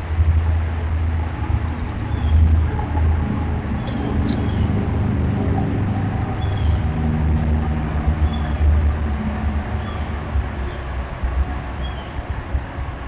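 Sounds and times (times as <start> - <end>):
vehicle traffic rumble: 0.0 - 13.0.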